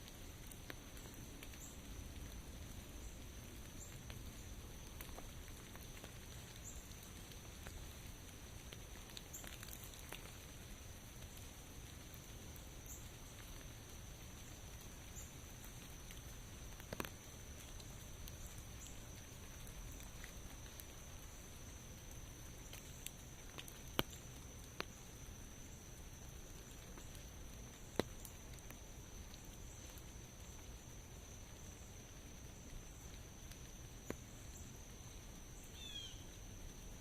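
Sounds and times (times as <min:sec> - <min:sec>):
sharp drip ticks: 0:00.0 - 0:36.3
faint rainfall: 0:00.0 - 0:37.0.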